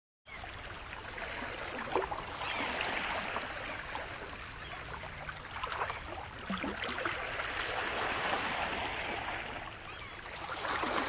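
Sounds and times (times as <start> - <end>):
small waves lapping: 0.3 - 11.0.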